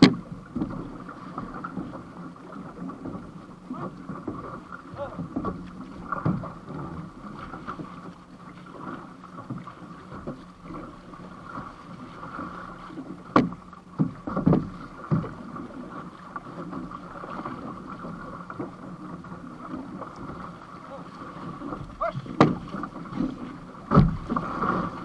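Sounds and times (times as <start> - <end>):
water rushing along canoe hull: 0.0 - 25.0.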